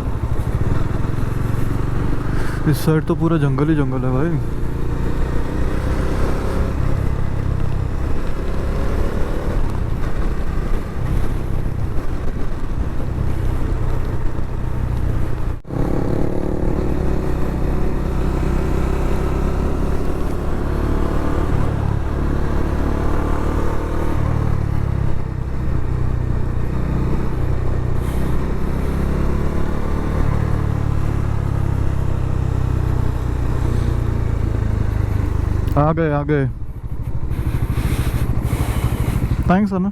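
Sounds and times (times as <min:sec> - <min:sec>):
wind rumble on microphone: 0:00.0 - 0:02.6, 0:04.5 - 0:35.8
motorcycle engine on the move: 0:00.0 - 0:39.9.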